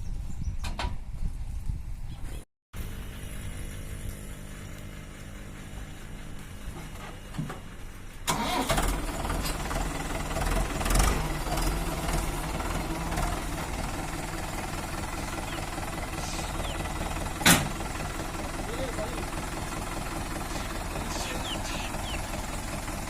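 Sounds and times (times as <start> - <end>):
tractor diesel engine running: 2.8 - 23.0.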